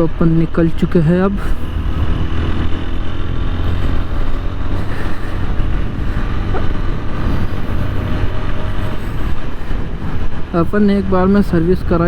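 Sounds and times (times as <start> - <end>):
wind noise on microphone: 0.0 - 12.0
motorcycle engine running: 1.1 - 11.4.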